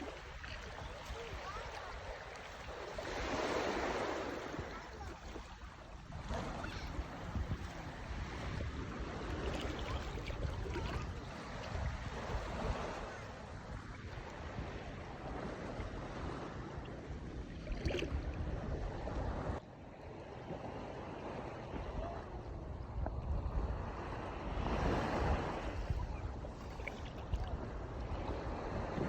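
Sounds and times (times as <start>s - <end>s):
sea water lapping: 0.0s - 19.6s, 20.2s - 29.0s
wind rumbling on microphone: 0.0s - 19.6s, 20.4s - 29.0s.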